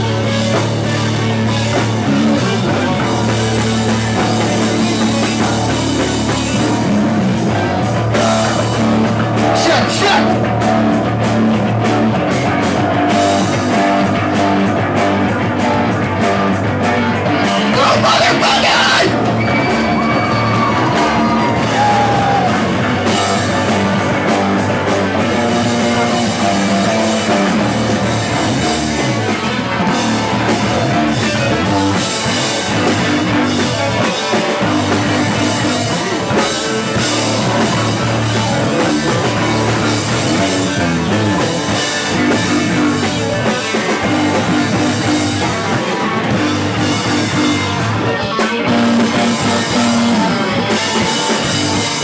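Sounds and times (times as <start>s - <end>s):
drum kit: 0.0s - 52.0s
guitars: 0.0s - 52.0s.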